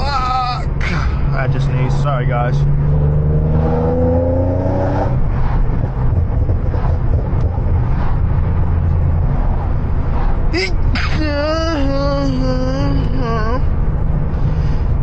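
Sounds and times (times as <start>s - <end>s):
car engine and exhaust drone: 0.0s - 15.0s.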